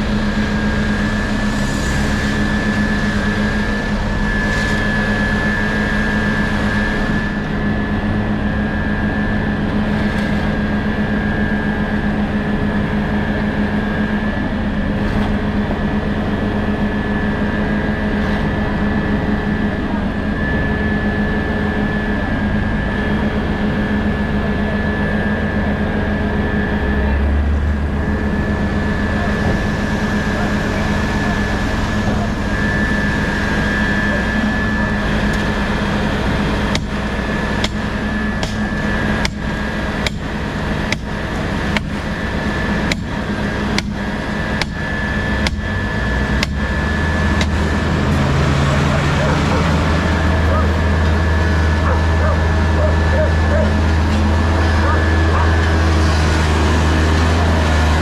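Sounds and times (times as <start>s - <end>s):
engine low rumble: 0.0s - 58.0s
high whine: 0.0s - 58.0s.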